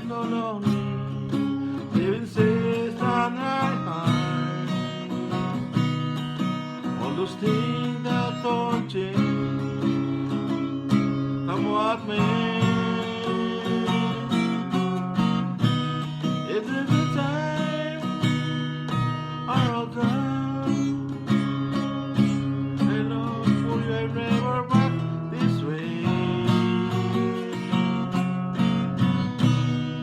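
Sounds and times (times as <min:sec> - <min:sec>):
acoustic guitar strummed: 0:00.0 - 0:30.0.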